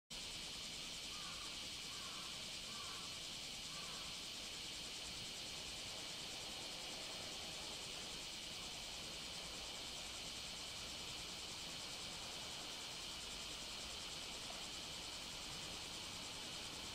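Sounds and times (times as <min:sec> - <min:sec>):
insects chorus: 0:00.1 - 0:16.9.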